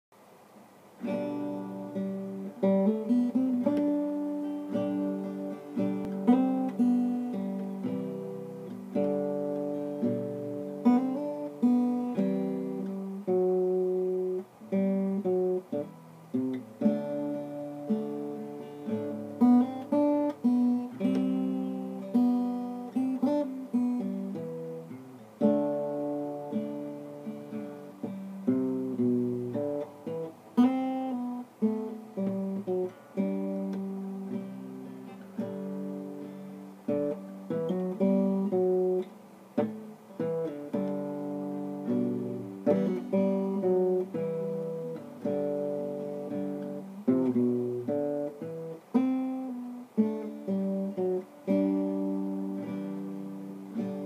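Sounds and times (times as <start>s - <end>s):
acoustic guitar playing chords: 0.2s - 54.0s.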